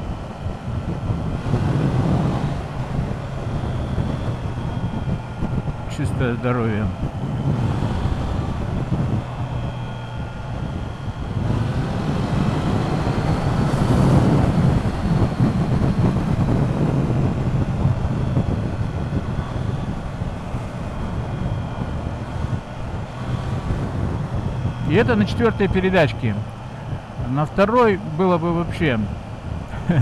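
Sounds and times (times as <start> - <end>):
motorcycle engine accelerating hard: 0.0 - 6.0, 6.6 - 28.0
wind rushing over microphone: 0.0 - 30.0.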